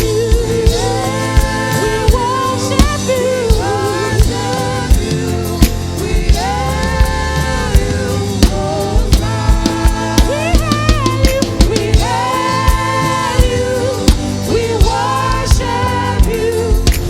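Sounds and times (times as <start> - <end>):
band with drum beat: 0.0 - 17.0.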